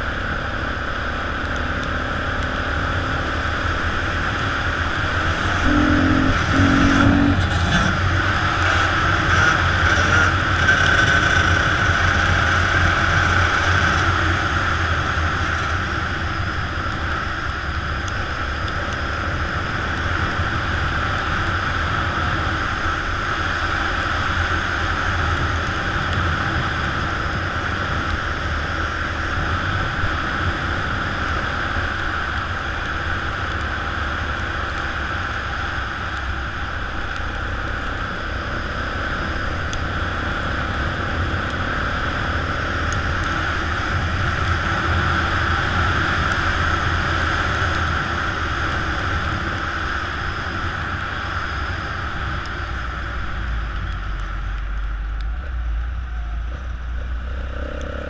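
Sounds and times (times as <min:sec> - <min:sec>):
motorcycle engine running under load: 0:00.0 - 0:58.0.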